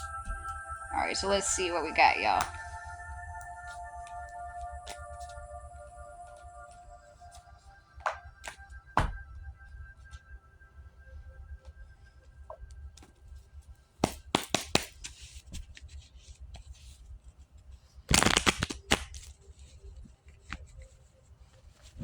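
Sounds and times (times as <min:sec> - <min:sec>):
faint background music: 0:00.0 - 0:22.0.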